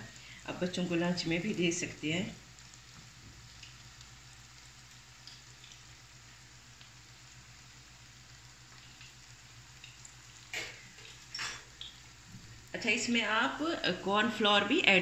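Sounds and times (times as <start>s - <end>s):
frying in hot oil: 0.0s - 15.0s.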